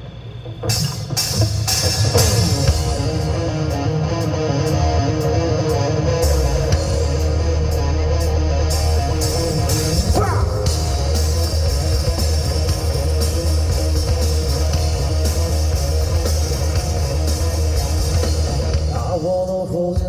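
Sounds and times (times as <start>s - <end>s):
drum kit: 0.0s - 20.0s
electric guitars: 0.0s - 20.0s
bass guitar: 0.4s - 20.0s.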